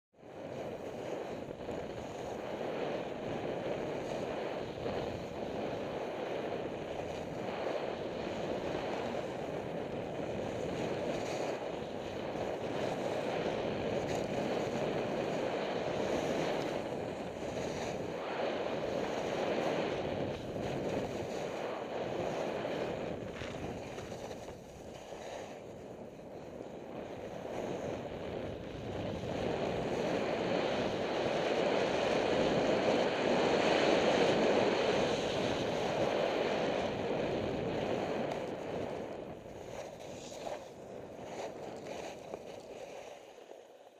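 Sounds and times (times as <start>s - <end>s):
wind rushing over microphone: 0.2s - 43.9s
skis scraping on snow: 0.3s - 43.9s.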